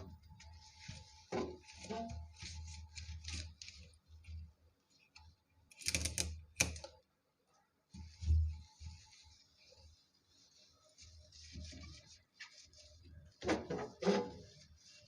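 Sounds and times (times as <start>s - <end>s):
cloth wiping: 0.0s - 5.5s, 7.8s - 15.0s.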